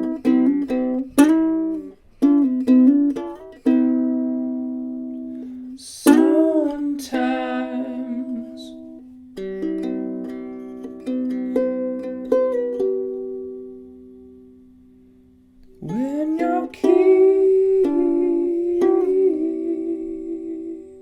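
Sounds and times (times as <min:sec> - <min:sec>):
ukulele chords strummed: 0:00.0 - 0:21.0.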